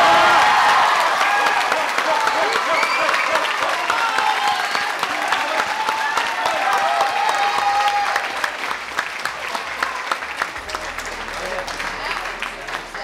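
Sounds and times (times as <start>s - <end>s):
spectators clapping: 0.0s - 13.0s.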